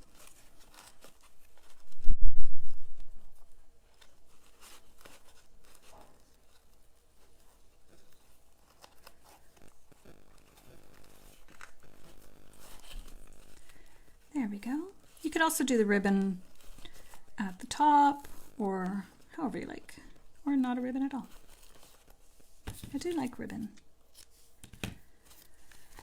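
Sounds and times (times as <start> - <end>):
ribbon and paper crinkling: 0.0 - 26.0.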